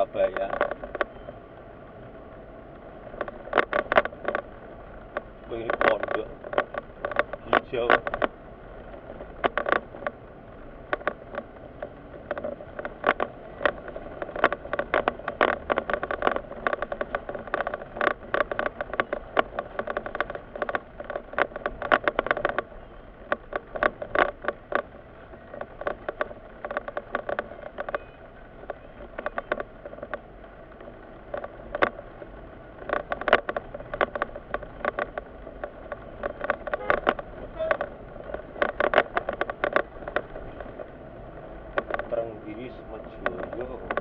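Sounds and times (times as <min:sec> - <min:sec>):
clicks and rattles in car cabin: 0:00.0 - 0:44.0
engine and road rumble: 0:00.0 - 0:44.0.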